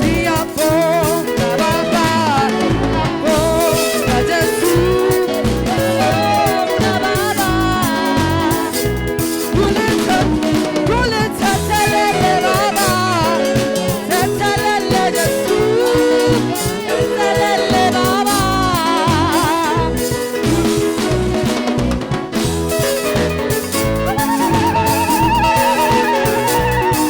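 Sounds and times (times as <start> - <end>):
person singing with vibrato: 0.0 - 22.1, 23.4 - 27.0
band with bass and drums: 0.0 - 27.0.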